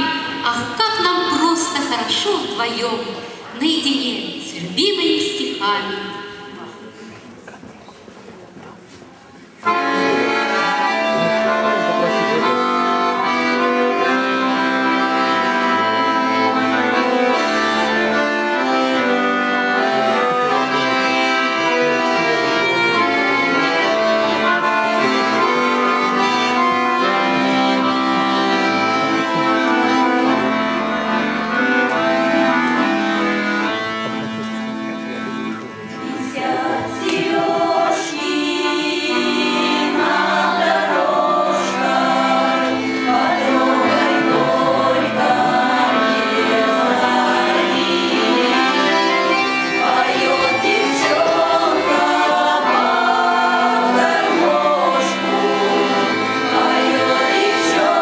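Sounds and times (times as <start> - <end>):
accordion playing a tune: 0.0 - 7.1, 9.4 - 58.0.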